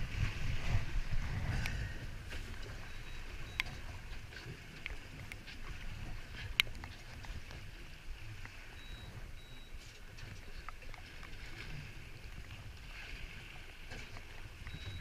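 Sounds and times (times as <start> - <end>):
choppy sea against a boat: 0.0 - 15.0
low rumble of wind: 0.0 - 15.0.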